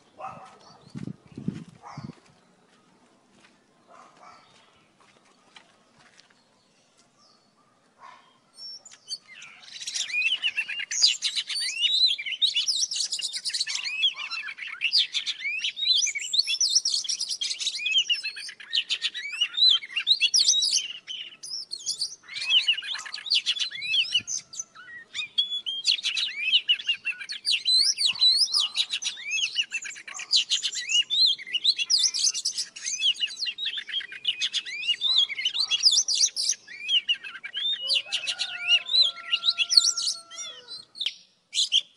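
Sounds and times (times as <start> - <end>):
birds singing whistles and chirps: 0.0 - 3.1, 5.9 - 41.9.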